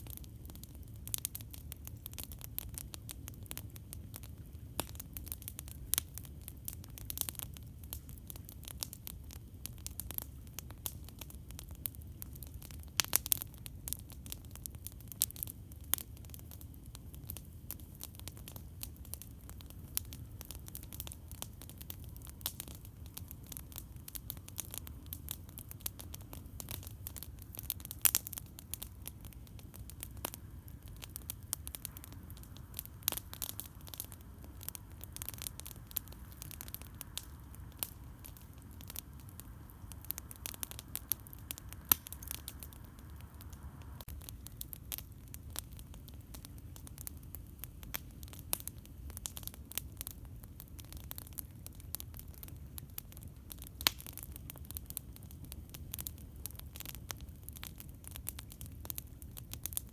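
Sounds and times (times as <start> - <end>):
campfire crackling: 0.0 - 59.9
low rumble of fire: 0.0 - 59.9.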